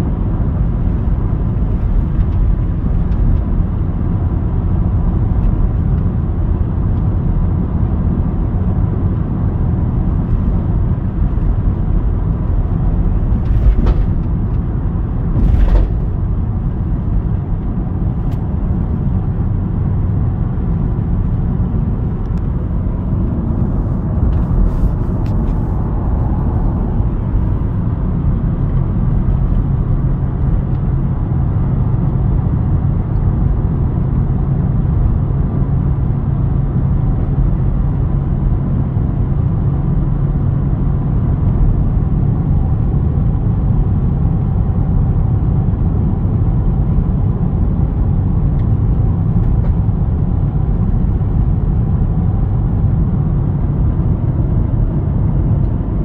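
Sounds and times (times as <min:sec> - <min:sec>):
diesel engine drone: 0:00.0 - 0:56.0
tyre and road rumble: 0:00.0 - 0:56.0.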